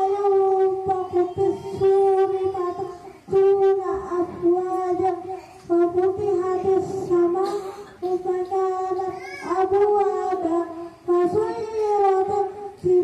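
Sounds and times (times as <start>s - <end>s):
child singing into microphone: 0.0s - 13.0s.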